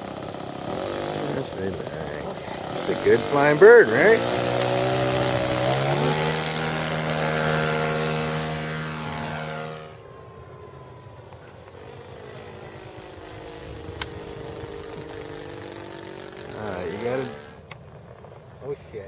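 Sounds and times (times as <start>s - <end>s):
model plane engine at high throttle: 0.0s - 19.0s.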